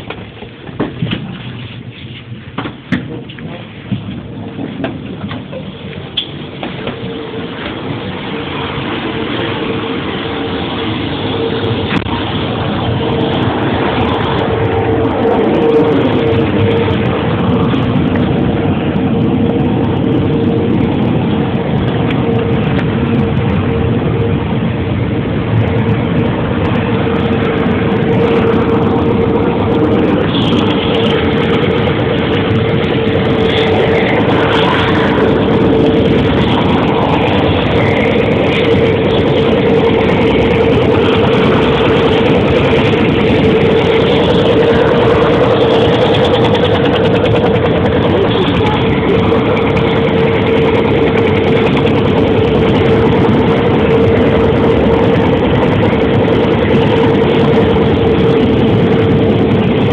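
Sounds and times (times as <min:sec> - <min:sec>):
helicopter engine and rotor: 0:02.6 - 0:59.9.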